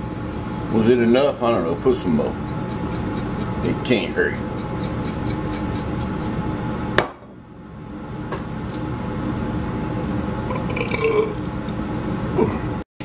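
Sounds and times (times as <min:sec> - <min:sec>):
steady background hum: 0:00.0 - 0:12.8.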